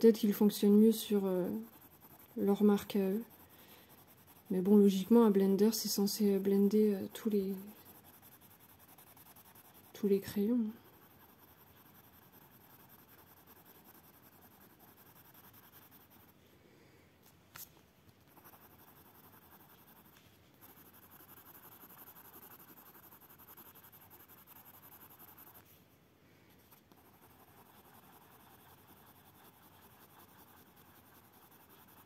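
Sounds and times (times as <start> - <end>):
pencil rubbing on paper: 0.0 - 16.4, 18.3 - 25.8, 26.6 - 32.0.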